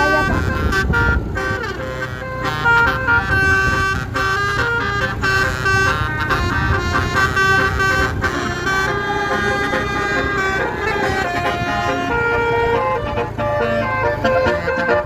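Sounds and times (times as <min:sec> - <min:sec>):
bus engine rumble: 0:00.0 - 0:15.0
multi-note bus horn melody: 0:00.0 - 0:15.0.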